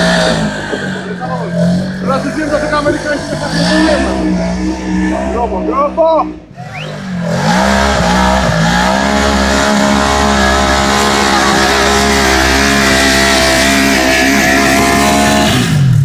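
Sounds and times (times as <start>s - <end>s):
engine at high revs: 0.0s - 16.0s.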